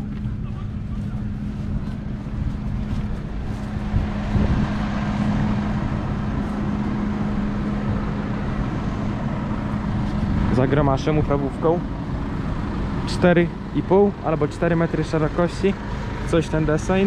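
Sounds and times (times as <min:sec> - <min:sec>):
wind rumbling on microphone: 0:00.0 - 0:14.1
engine hum: 0:00.0 - 0:17.0.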